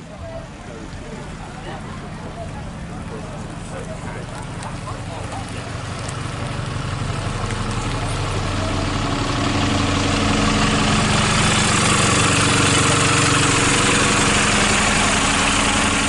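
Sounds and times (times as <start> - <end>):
bus diesel engine driving past: 0.0 - 16.0.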